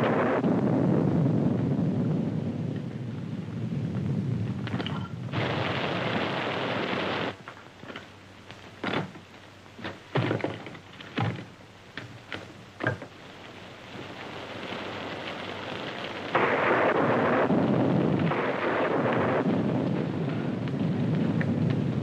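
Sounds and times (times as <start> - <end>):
storm rain and wind: 0.0 - 22.0.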